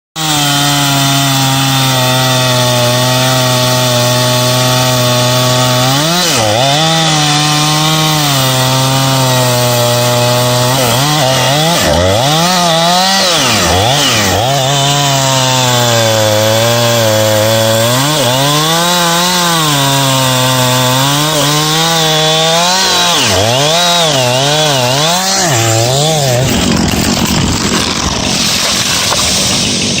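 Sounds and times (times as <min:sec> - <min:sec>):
chainsaw cutting wood: 0:00.2 - 0:30.0.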